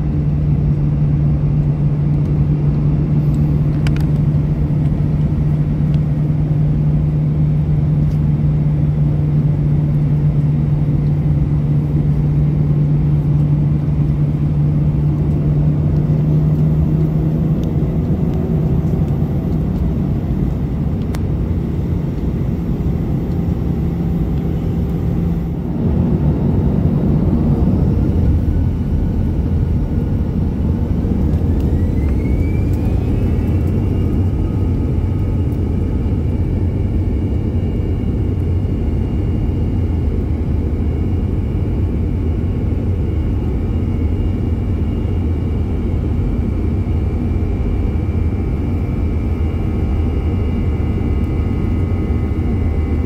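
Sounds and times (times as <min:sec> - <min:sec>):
jet engine rumble and whine: 0:00.0 - 0:53.0.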